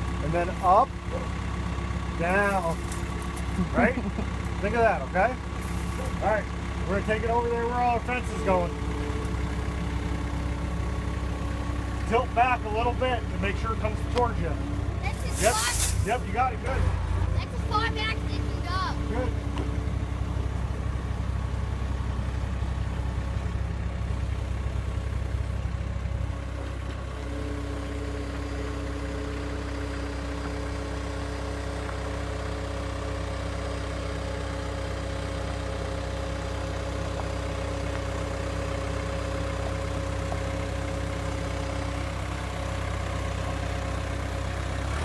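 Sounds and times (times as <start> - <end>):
skid steer engine running: 0.0 - 45.0.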